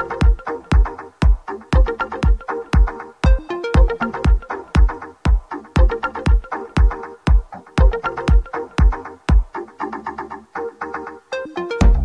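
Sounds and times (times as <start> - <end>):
kick drum and bass: 0.0 - 9.6, 11.8 - 12.0
rhythmic synth melody: 0.0 - 12.0.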